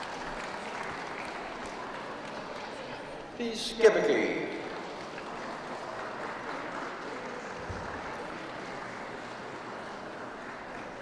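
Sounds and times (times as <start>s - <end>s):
audience applauding: 0.0s - 3.2s, 4.6s - 11.0s.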